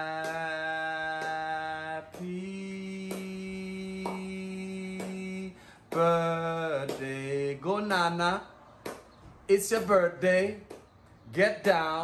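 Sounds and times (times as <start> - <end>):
man singing unaccompanied: 0.0 - 8.5, 9.5 - 12.0.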